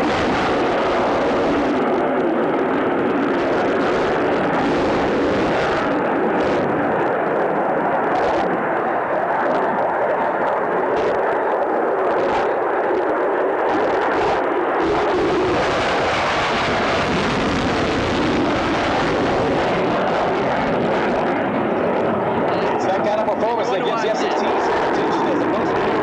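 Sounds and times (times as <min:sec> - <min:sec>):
fighter jet engine rush: 0:00.0 - 0:26.0.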